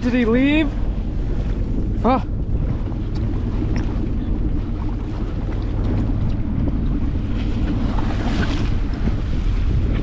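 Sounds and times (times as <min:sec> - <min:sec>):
boat engine running: 0:00.0 - 0:10.0
water washing along hull: 0:00.0 - 0:10.0
wind on microphone: 0:00.0 - 0:10.0.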